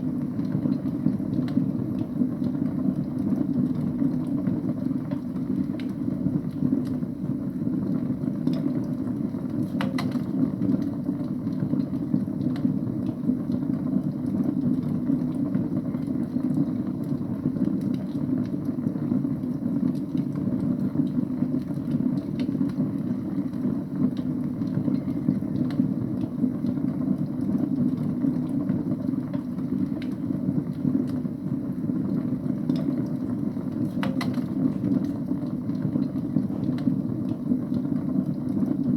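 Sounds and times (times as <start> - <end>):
fire crackles and pops: 0.0 - 38.9
wood fire burning: 0.0 - 38.9.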